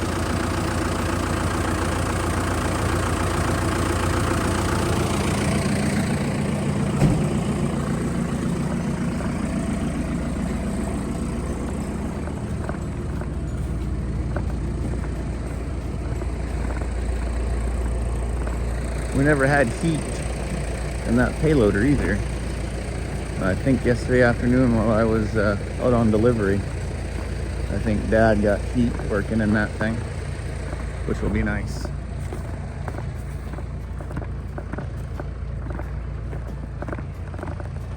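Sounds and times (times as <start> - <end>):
heavy equipment engine idling: 0.0 - 37.9.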